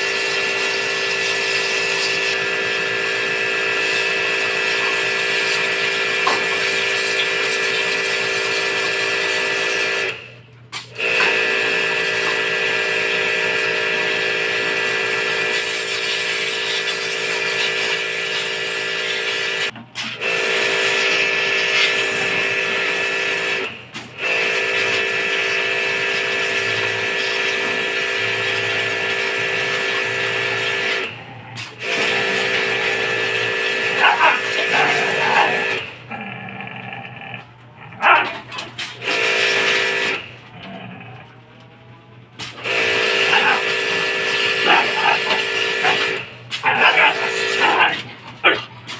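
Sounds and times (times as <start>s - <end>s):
pressure washer spraying water: 0.0s - 10.1s, 10.7s - 35.9s, 38.8s - 40.2s, 42.4s - 48.0s.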